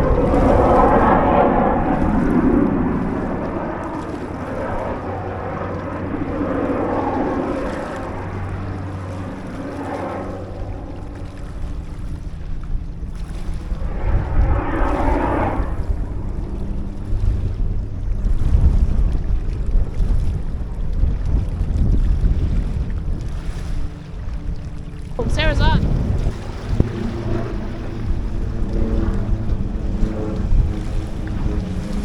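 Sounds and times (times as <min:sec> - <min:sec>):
engine drone: 0:00.0 - 0:21.3, 0:22.8 - 0:32.0
wind buffeting microphone: 0:00.0 - 0:32.0.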